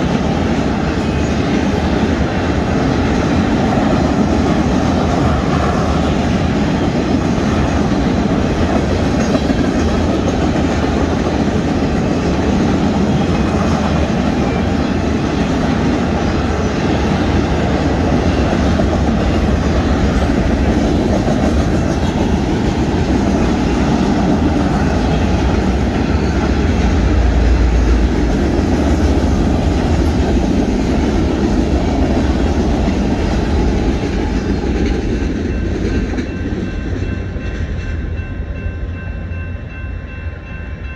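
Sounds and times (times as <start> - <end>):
train wheels rolling on rails: 0.0 - 40.9.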